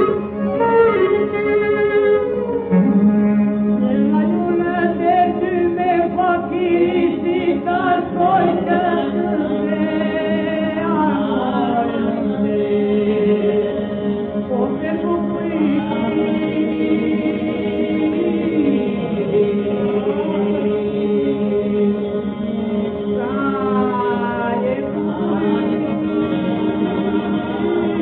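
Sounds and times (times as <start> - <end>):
vocal group singing in parts: 3.8 - 28.0.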